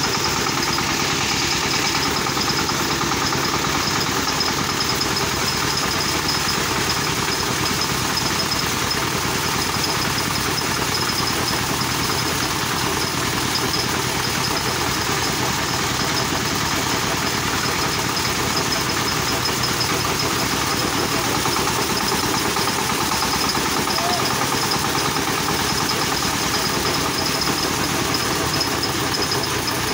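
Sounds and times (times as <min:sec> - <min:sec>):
threshing machine engine running: 0:00.0 - 0:29.9.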